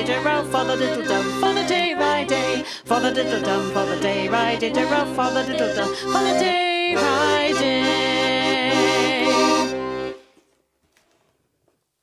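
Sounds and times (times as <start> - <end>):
women singing: 0.0 - 9.8
piano accordion: 0.0 - 10.4.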